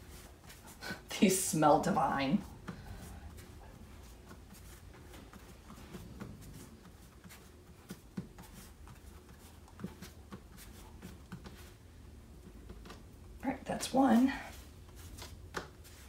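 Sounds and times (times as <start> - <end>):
hands shaping dough on countertop: 0.0 - 16.0
low steady hum: 0.0 - 16.0.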